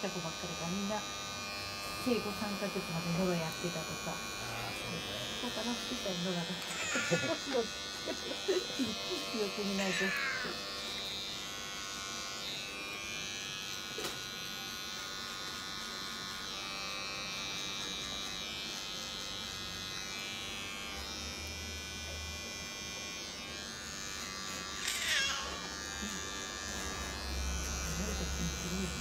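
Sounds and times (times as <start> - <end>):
pet clipper buzzing: 0.0 - 29.0.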